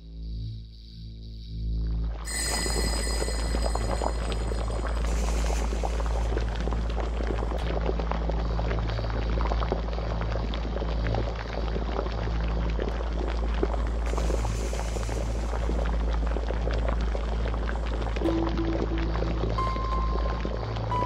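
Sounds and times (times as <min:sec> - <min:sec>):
bubbling crackling texture: 0:02.3 - 0:21.0
low steady drone: 0:02.3 - 0:21.0.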